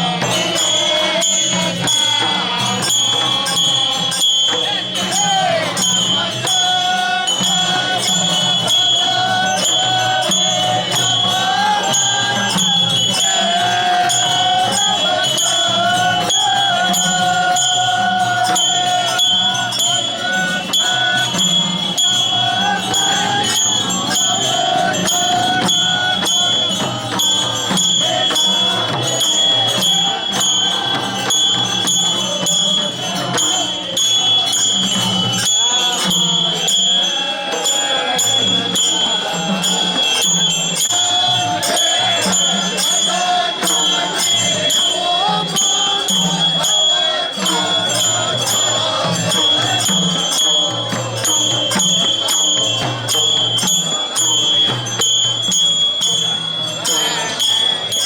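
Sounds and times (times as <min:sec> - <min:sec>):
drums and cymbals: 0:00.0 - 0:58.0.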